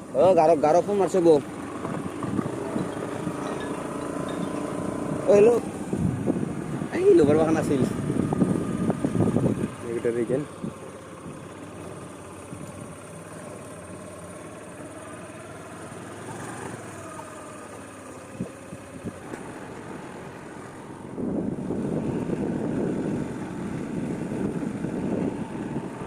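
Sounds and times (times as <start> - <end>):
vehicle engine whine: 0.0 - 26.0.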